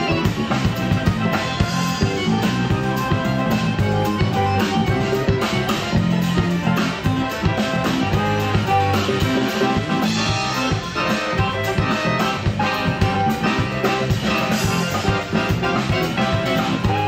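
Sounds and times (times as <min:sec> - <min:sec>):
live band playing upbeat tune: 0:00.0 - 0:17.0
steady drum beat: 0:00.0 - 0:17.0.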